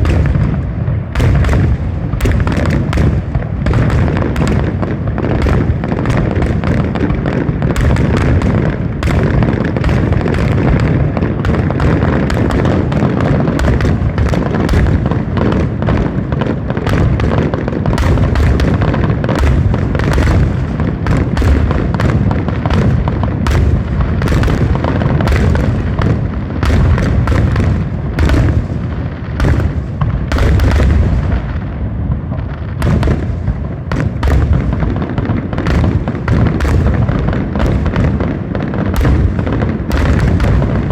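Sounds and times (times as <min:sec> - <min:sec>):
fireworks booming: 0:00.0 - 0:40.9
sharp firework cracks: 0:00.0 - 0:40.9.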